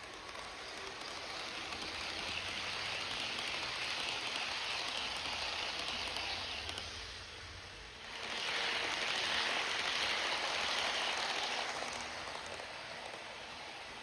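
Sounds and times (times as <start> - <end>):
passing passenger train: 0.0 - 14.0.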